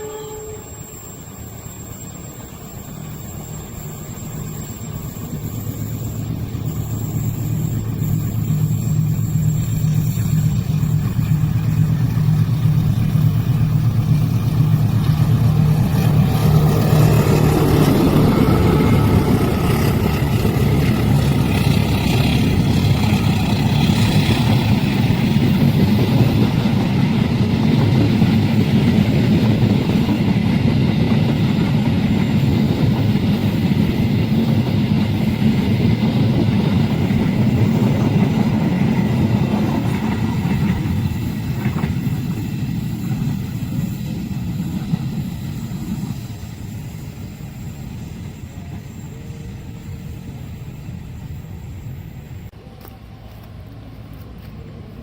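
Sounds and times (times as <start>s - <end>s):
diesel train engine hum: 0.0s - 55.0s
train rolling past: 0.0s - 55.0s.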